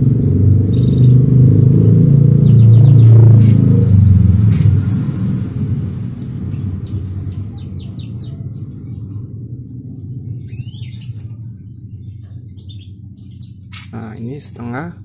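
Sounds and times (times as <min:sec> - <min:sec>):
low engine rumble: 0:00.0 - 0:15.0
small birds chirping: 0:00.2 - 0:05.0, 0:05.8 - 0:09.4, 0:10.0 - 0:15.0.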